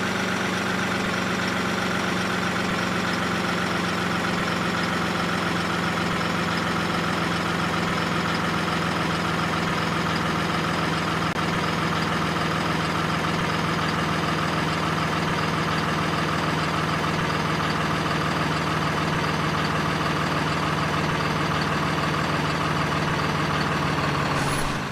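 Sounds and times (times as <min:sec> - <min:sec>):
truck engine idling: 0:00.0 - 0:24.9.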